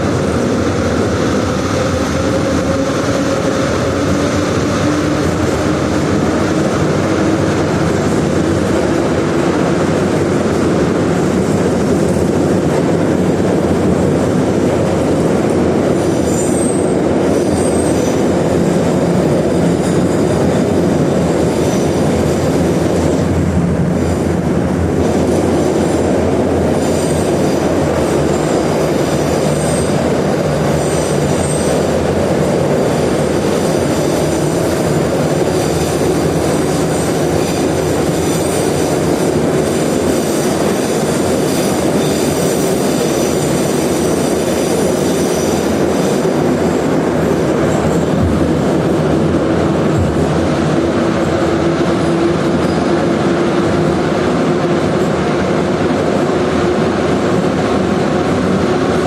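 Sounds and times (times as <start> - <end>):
metro train wheels rumbling: 0.0 - 59.0.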